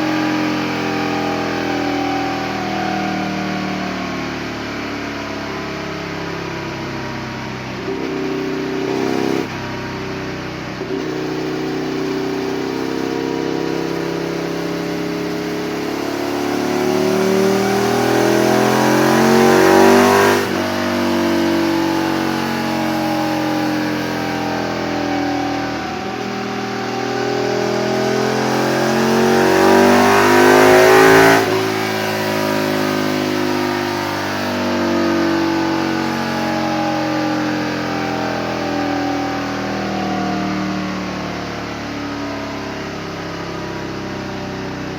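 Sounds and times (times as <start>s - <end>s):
motorcycle engine revving on dyno: 0.0s - 44.9s.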